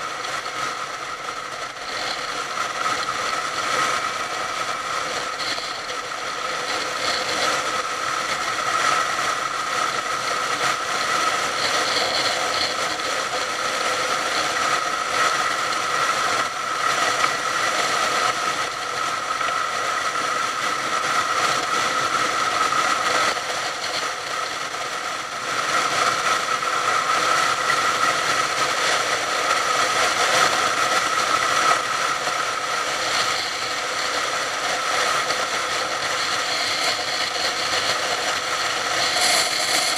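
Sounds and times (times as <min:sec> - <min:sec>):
motorcycle engine whine: 0:00.0 - 0:39.9.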